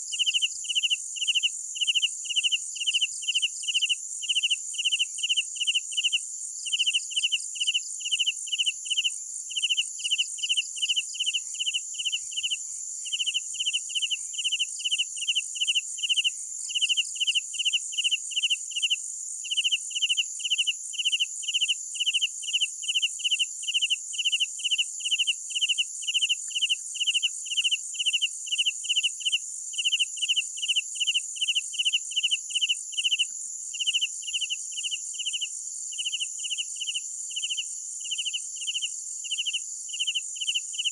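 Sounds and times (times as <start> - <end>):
cricket chirping: 0.0 - 40.9
high-pitched insect trill: 0.0 - 40.9.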